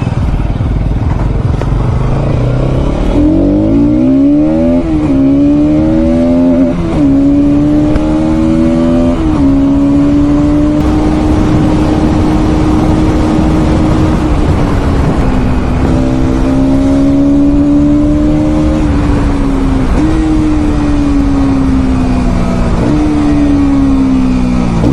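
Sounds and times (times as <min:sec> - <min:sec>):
motorcycle engine under load: 0:00.0 - 0:24.9
rush of noise: 0:00.0 - 0:24.9.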